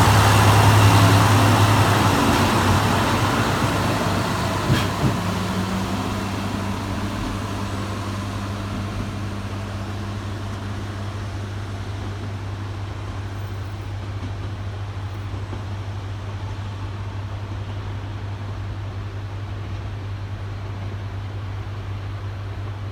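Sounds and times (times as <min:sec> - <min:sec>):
diesel railcar pulling away: 0:00.0 - 0:22.9.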